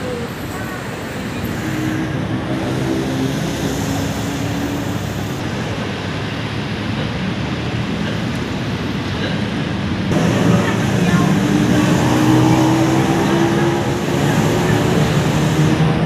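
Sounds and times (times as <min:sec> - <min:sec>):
city traffic noise: 0:00.0 - 0:16.0.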